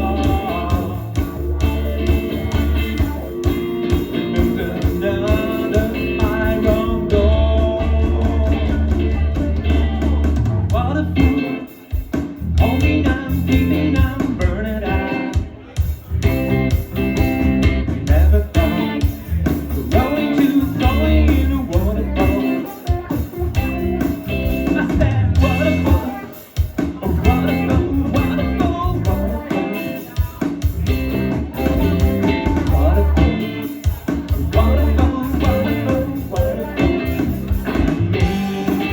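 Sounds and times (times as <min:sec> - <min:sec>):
bass line: 0:00.0 - 0:38.9
electric guitar: 0:00.0 - 0:38.9
live band music: 0:00.0 - 0:38.9.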